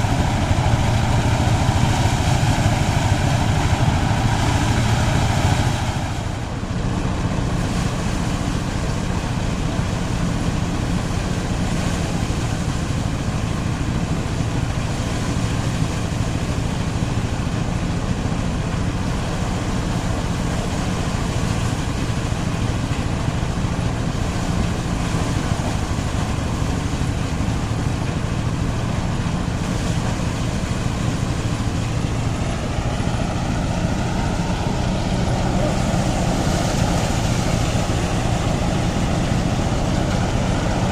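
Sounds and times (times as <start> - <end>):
threshing machine humming: 0.0 - 40.9.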